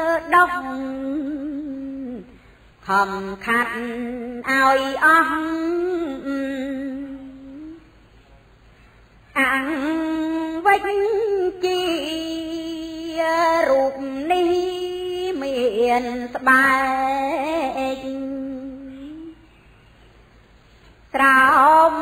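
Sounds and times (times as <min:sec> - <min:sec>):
woman chanting: 0:00.0 - 0:08.0, 0:09.2 - 0:19.7, 0:21.1 - 0:22.0.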